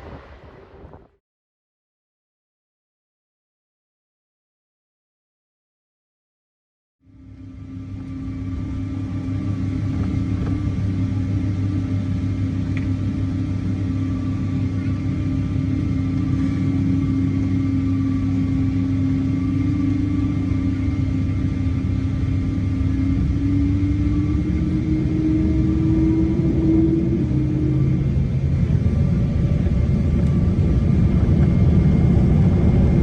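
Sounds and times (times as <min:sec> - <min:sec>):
jet engines rumbling: 0:00.0 - 0:01.2, 0:07.2 - 0:33.0.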